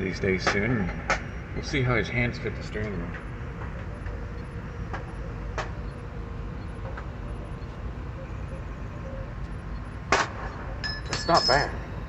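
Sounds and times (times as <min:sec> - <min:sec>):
stepper motor tones: 0:00.0 - 0:12.0
three d printer humming: 0:00.0 - 0:12.0.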